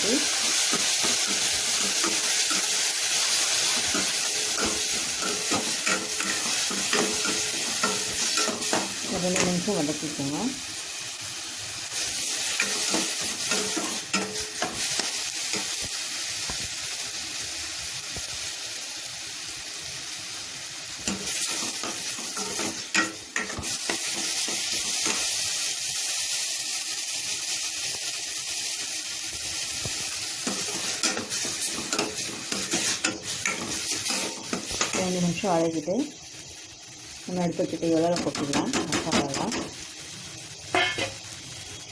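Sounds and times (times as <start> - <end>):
spice paste sizzling in oil: 0.0 - 41.9.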